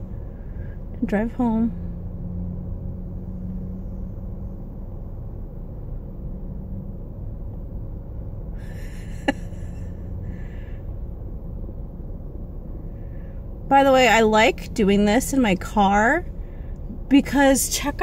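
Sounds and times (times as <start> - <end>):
low rumble of cars: 0.0 - 18.0.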